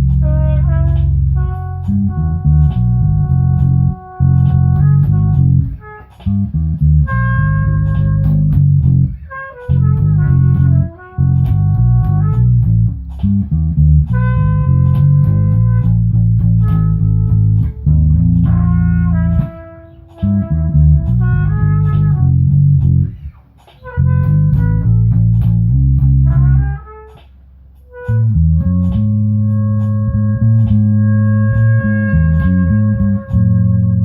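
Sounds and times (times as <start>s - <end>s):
bass guitar line: 0.0s - 34.0s.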